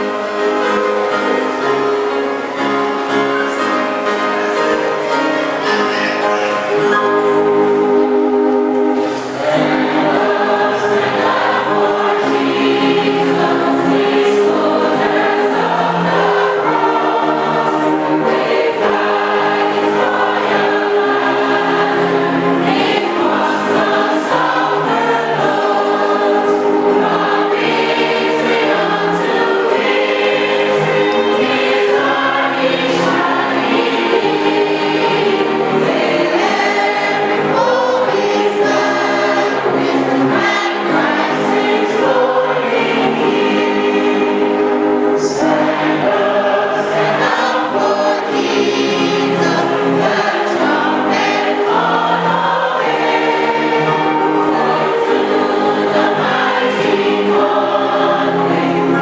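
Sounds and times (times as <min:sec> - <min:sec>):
choir singing a hymn: 0:00.0 - 0:59.0
musical accompaniment: 0:00.0 - 0:59.0.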